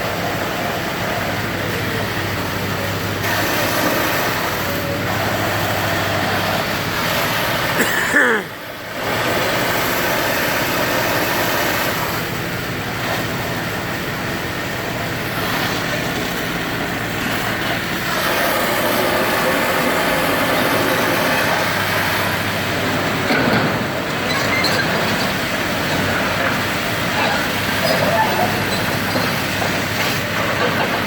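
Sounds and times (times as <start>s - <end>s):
heavy machinery engine running: 0.0s - 31.0s
outdoor machine noise: 0.0s - 31.0s.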